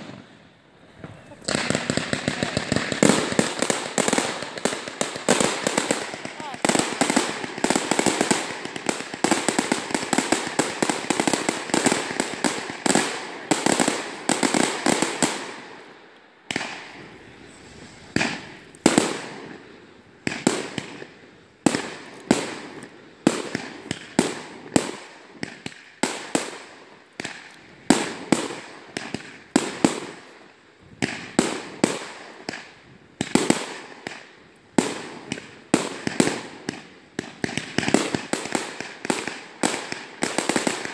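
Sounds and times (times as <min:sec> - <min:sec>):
fireworks bangs: 0:00.0 - 0:40.9.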